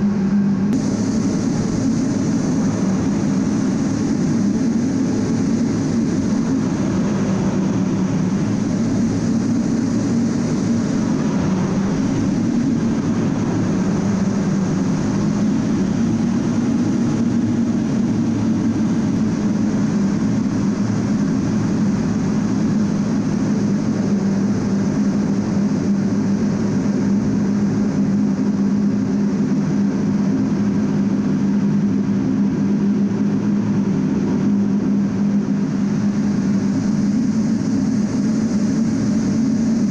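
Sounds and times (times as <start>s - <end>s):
jet engine drone: 0.0s - 39.9s
wide rushing noise: 0.0s - 39.9s.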